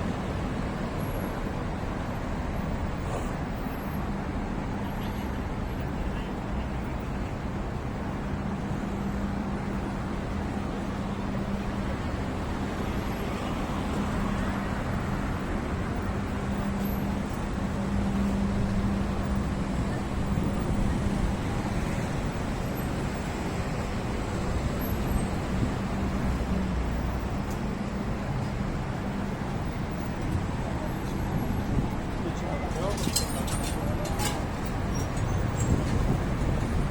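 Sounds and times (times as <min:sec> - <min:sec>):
passing vehicles: 0:00.0 - 0:36.9.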